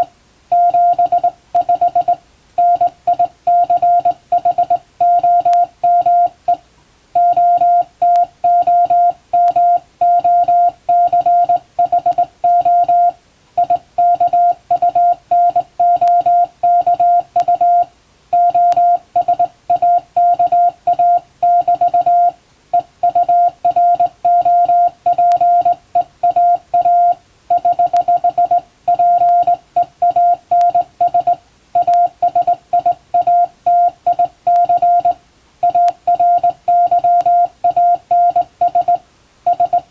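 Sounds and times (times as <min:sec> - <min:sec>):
morse code beeps: 0:00.0 - 0:06.6, 0:07.2 - 0:39.9.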